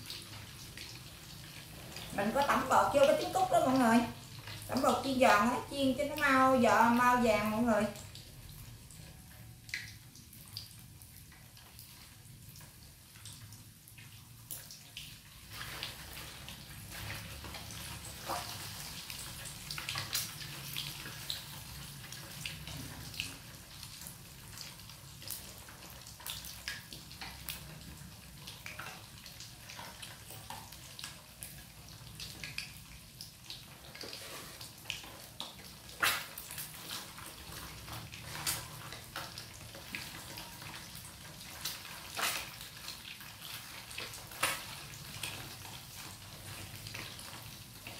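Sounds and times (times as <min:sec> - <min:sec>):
eggs frying in hot oil: 0:00.0 - 0:47.9.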